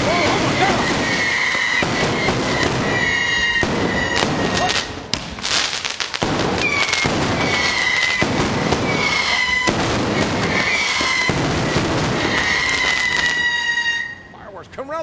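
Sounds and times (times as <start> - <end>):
fireworks crackling and popping: 0.0 - 14.3
firework whistles: 0.0 - 14.4.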